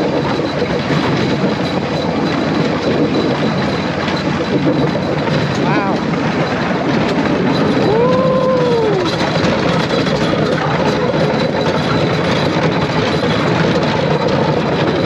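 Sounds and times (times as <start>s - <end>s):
rail cart rumbling on track: 0.0s - 15.0s.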